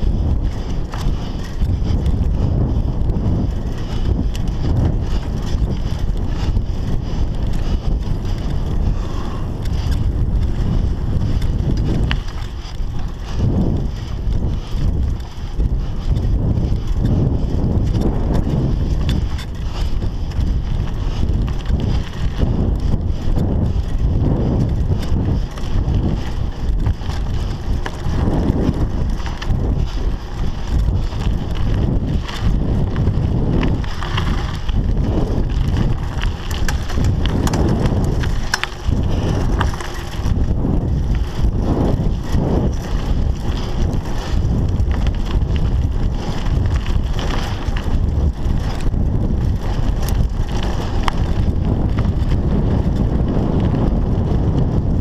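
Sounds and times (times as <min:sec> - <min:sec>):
bike rattling over bumps: 0:00.0 - 0:55.0
bike tyres rumbling on dirt: 0:00.0 - 0:55.0
wind buffeting microphone: 0:00.0 - 0:55.0.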